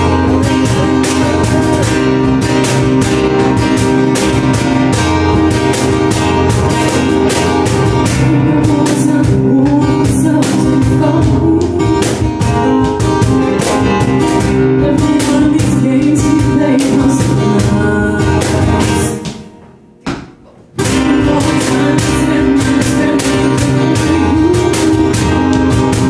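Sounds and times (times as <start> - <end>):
cajon hand drum beat: 0.0 - 19.5, 20.8 - 26.0
strummed acoustic guitar: 0.0 - 19.6, 20.8 - 26.0.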